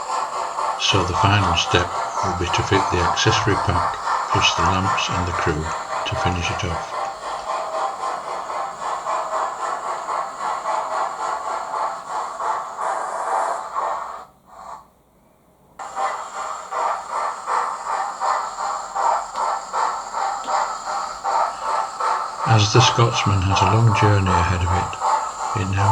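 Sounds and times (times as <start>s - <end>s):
steam locomotive sound effects: 0.0s - 15.0s, 15.8s - 25.9s.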